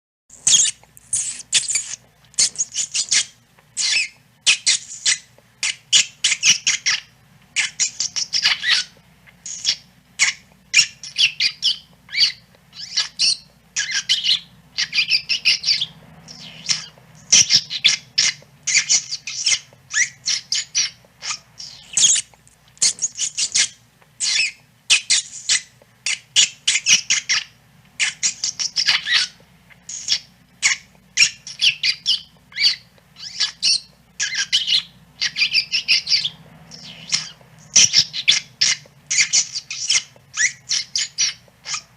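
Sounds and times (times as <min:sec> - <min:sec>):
rat squeaking: 0:00.3 - 0:41.9.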